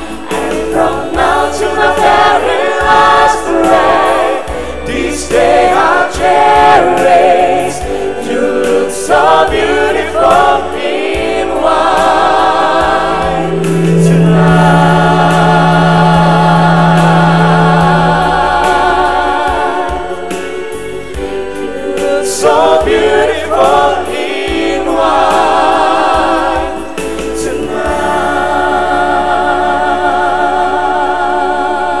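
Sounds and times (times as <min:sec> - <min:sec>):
backing music: 0:00.0 - 0:32.0
singers holding vibrato notes: 0:00.0 - 0:32.0.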